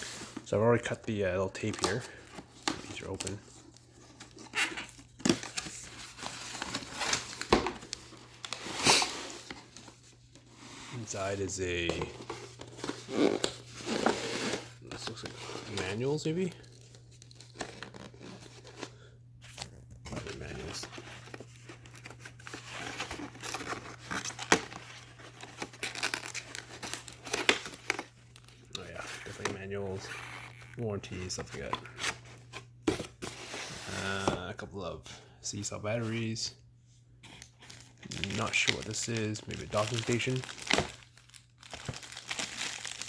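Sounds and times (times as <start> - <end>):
cardboard and paper rustling: 0.0 - 34.7, 37.2 - 43.0.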